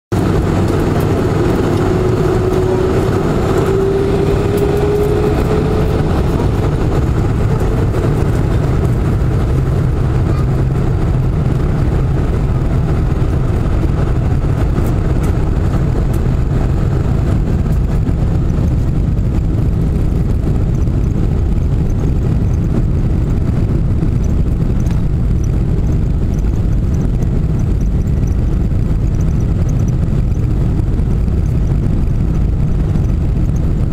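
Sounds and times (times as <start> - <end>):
jet engines low rumble in cabin: 0.1 - 33.9
thin engine whine: 0.1 - 33.9.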